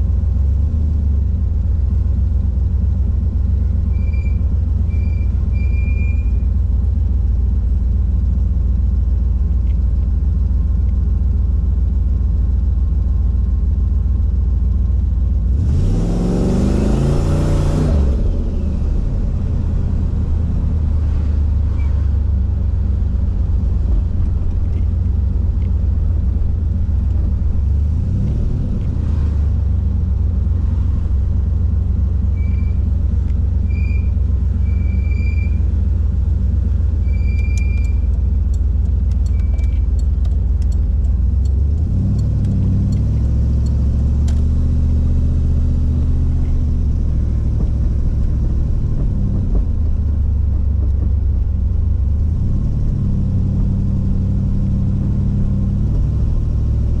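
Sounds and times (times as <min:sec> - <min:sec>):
car engine exhaust rumble: 0:00.0 - 0:57.0.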